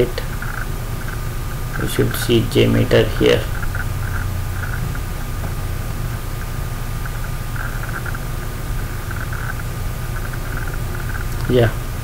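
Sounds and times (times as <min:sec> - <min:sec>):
low hum and hiss: 0:00.0 - 0:12.0
thin steady tone: 0:00.0 - 0:12.0.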